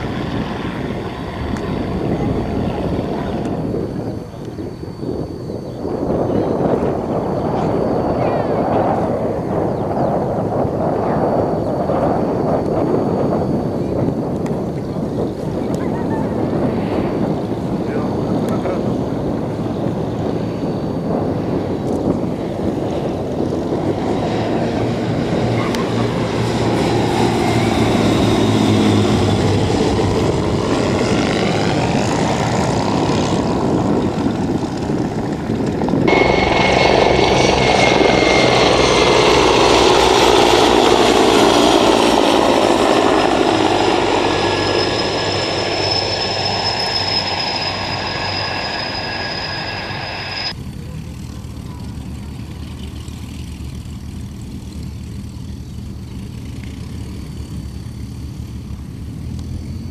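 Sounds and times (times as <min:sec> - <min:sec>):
helicopter passing: 0:00.0 - 0:59.9
propeller aircraft flying past: 0:00.0 - 0:59.9
propeller engine running: 0:00.0 - 0:59.9
turbine whine: 0:00.0 - 0:59.9.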